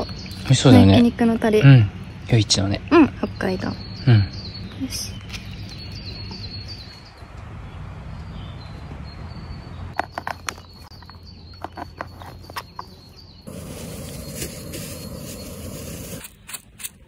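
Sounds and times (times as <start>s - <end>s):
songbird chirping: 0.0s - 16.8s
low outdoor background noise: 0.0s - 17.0s.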